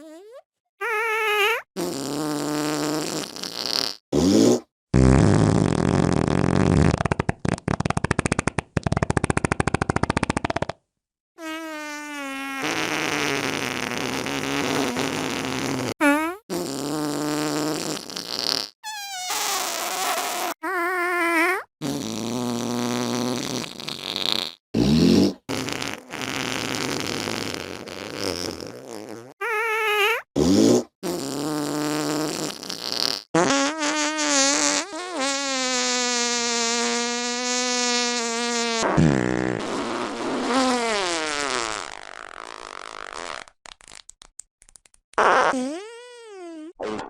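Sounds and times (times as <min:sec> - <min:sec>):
fart sounds: 0:00.0 - 0:10.8, 0:11.4 - 0:44.3, 0:45.1 - 0:47.0.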